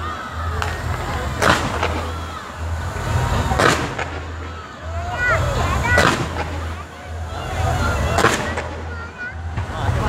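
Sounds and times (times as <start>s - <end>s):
fireworks bangs: 0.0s - 10.0s
fireworks pops and crackle: 0.5s - 6.9s, 7.9s - 10.0s.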